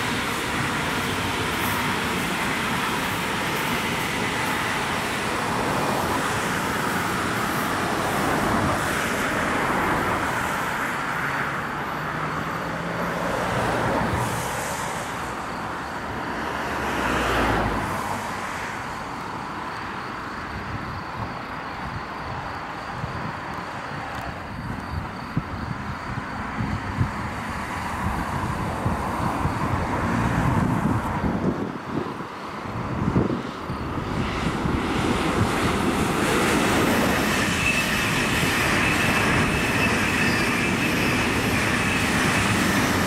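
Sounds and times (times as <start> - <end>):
cars on road: 0.0 - 43.0
high-speed train passing: 0.0 - 43.0.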